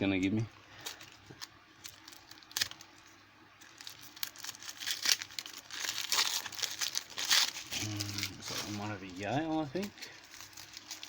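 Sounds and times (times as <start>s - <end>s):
wrapping crinkling: 0.7s - 11.0s.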